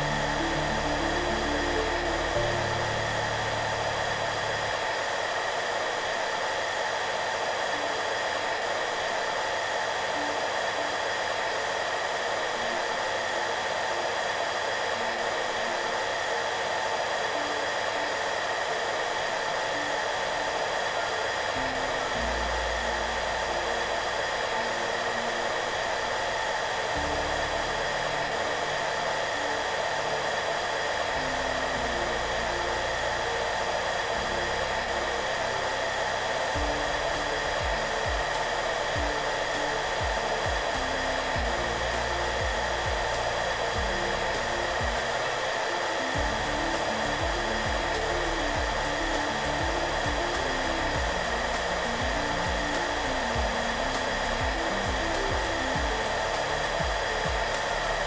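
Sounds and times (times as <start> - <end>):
hair dryer running: 0.0 - 58.0
soft background music: 0.0 - 58.0.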